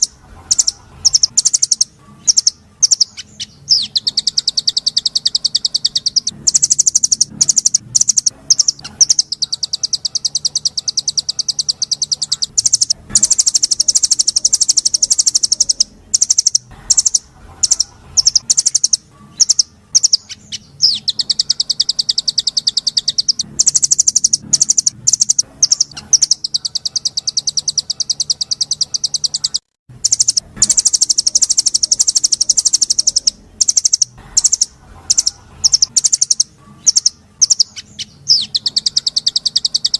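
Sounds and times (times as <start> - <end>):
short sharp bird chirps: 0.0 - 39.9
songbird rapid high trills: 0.0 - 39.9.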